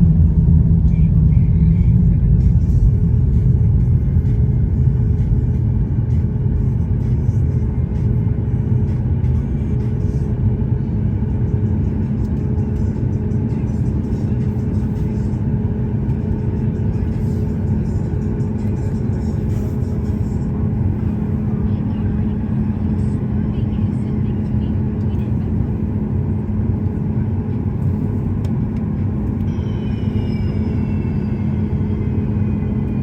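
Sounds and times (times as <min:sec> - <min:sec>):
aircraft cabin engine hum: 0:00.0 - 0:33.0.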